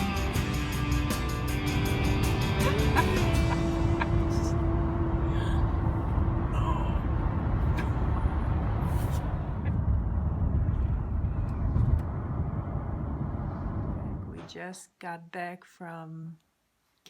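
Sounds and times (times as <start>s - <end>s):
car road rumble: 0.0s - 14.4s.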